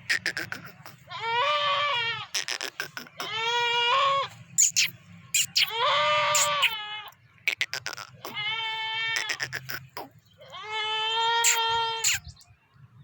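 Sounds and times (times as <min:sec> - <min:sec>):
goat bleating: 0:00.0 - 0:12.3.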